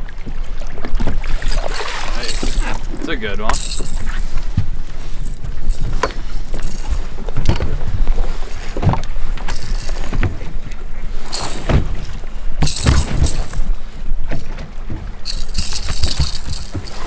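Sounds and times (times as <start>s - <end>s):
knocks and thumps on boat deck: 0.8s - 10.8s, 11.4s - 17.0s
rustling: 1.4s - 7.4s, 8.1s - 10.2s, 11.1s - 17.0s.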